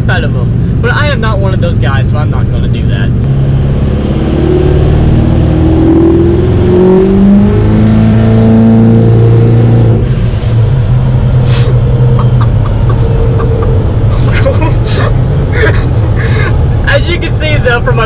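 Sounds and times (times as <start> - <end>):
diesel truck engine accelerating: 0.0 - 18.0.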